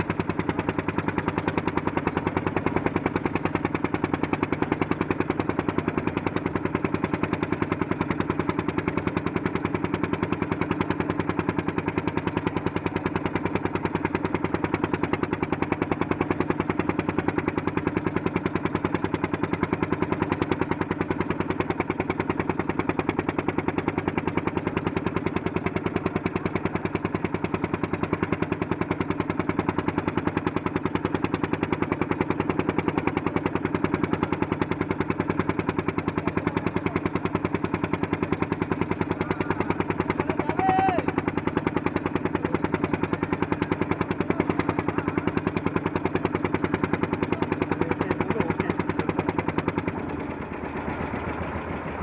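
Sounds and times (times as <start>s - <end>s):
motor boat engine chugging: 0.0s - 52.0s.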